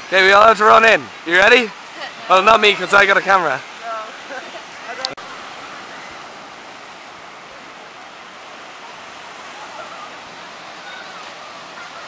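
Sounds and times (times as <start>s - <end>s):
surf washing over sand: 0.0s - 12.0s.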